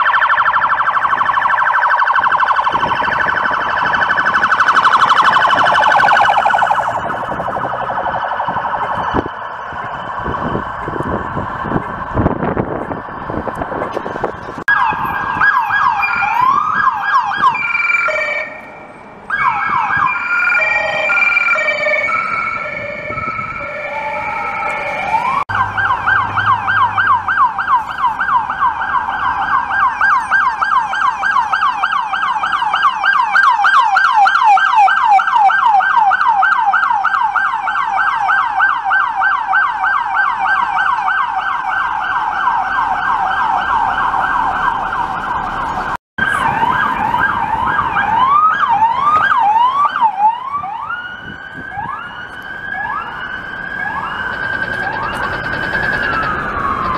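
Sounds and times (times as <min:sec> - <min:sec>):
police siren yelping: 0:00.0 - 0:14.0, 0:14.7 - 0:56.9.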